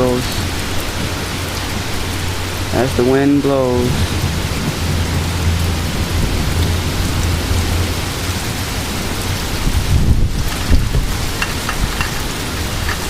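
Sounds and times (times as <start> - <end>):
low thunder rumble: 0.0 - 13.0
steady rain hiss: 0.0 - 13.0
wind: 0.0 - 13.0.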